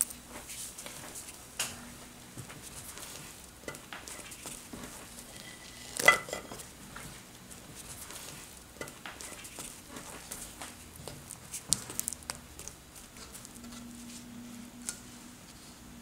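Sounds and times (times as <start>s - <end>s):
spatula scraping in pan: 2.6s - 15.7s.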